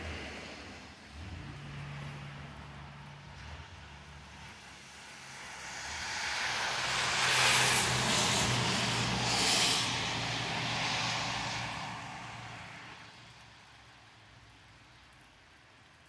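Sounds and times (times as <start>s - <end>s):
low engine hum: 0.0s - 14.6s
tyre hiss on wet street: 0.0s - 16.0s.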